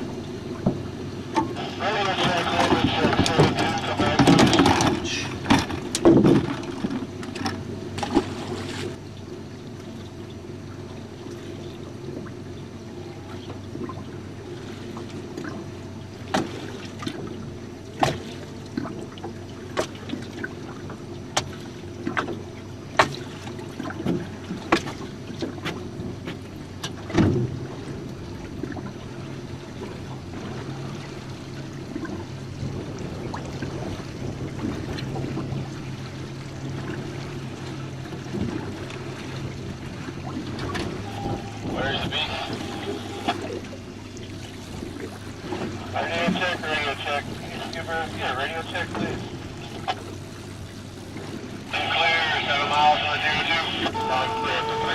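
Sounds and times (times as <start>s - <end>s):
steady low hum: 0.0s - 54.9s
water lapping at hull: 0.0s - 54.9s.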